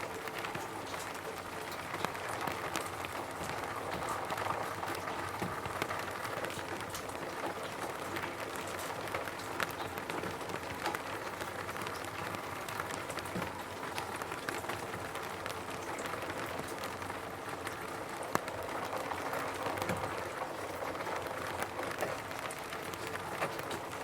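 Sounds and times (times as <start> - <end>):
rain pattering on a roof: 0.0 - 24.0.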